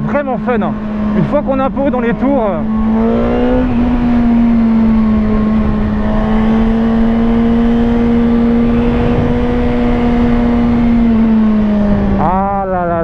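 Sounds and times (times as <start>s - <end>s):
motorcycle engine pulling: 0.0s - 12.4s
wind noise: 0.0s - 13.0s.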